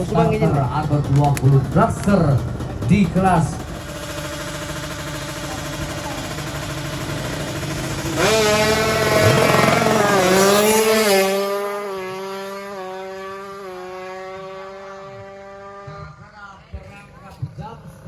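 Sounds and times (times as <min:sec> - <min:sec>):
two-stroke motorcycle engine revving: 0:00.0 - 0:16.3.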